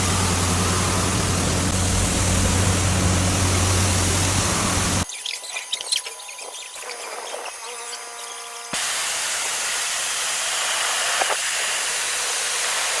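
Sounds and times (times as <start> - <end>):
spray jets hissing: 0.0 - 7.6, 8.6 - 13.0
faint motor whine: 0.0 - 13.0.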